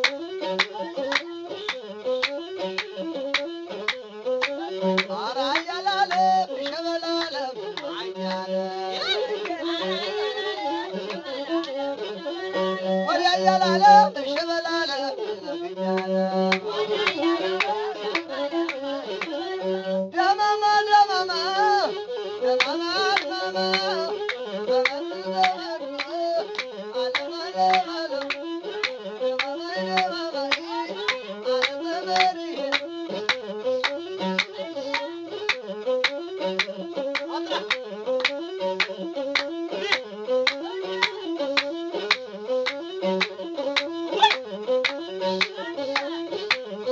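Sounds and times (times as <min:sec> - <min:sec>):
bowed fiddle melody: 0:00.0 - 0:46.9.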